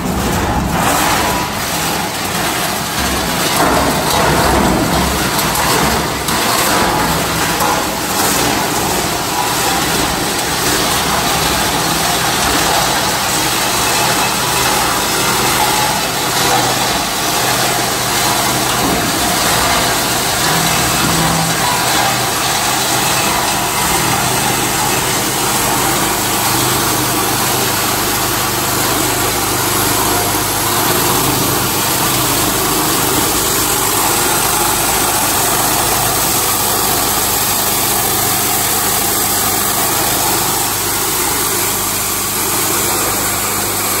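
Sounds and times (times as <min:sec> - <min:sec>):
plastic crusher running: 0:00.0 - 0:44.0.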